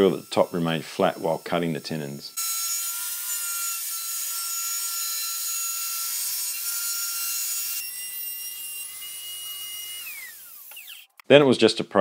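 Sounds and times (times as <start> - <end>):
electric router whining: 0.0 - 11.2
router bit cutting wood: 0.0 - 11.2.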